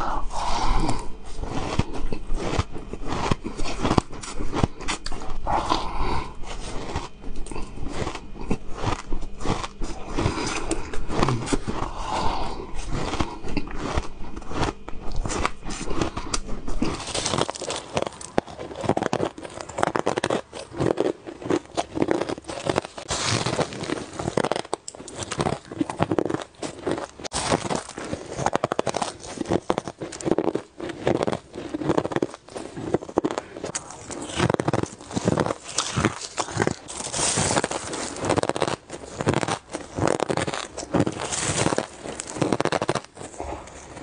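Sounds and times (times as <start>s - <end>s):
crunching ice being chewed: 0.0s - 44.0s
low background hum: 0.0s - 44.0s.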